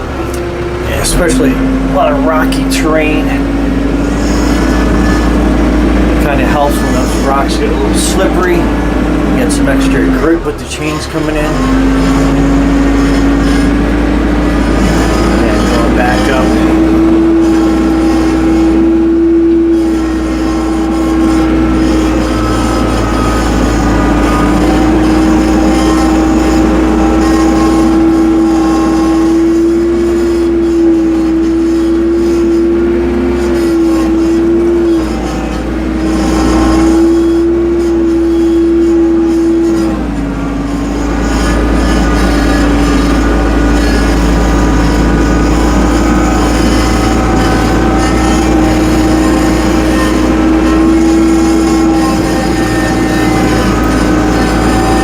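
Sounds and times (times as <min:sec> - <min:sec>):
steady whine: 0:00.0 - 0:55.0
tractor engine running: 0:00.0 - 0:55.0.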